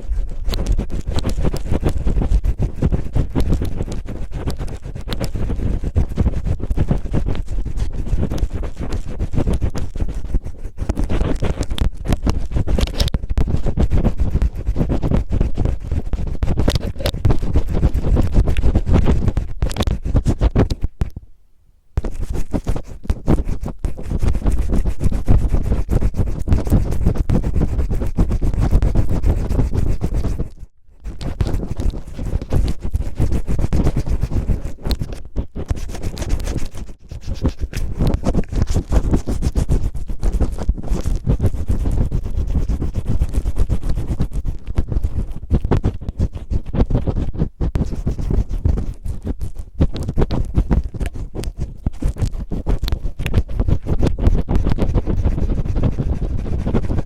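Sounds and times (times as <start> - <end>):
cellophane crinkling on microphone: 0.0 - 21.1, 22.0 - 57.0.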